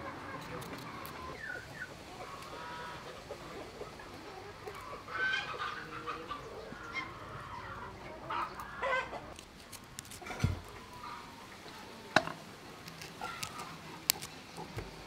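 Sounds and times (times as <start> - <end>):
chickens clucking: 0.0 - 9.4, 10.1 - 15.0.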